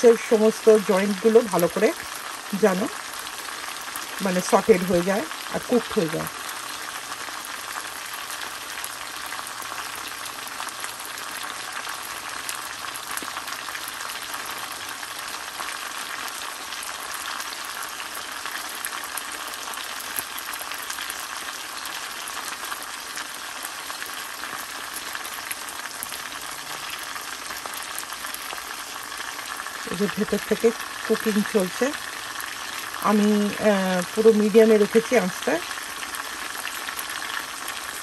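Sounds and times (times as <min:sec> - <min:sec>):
chicken sizzling in oil: 0:00.0 - 0:38.0.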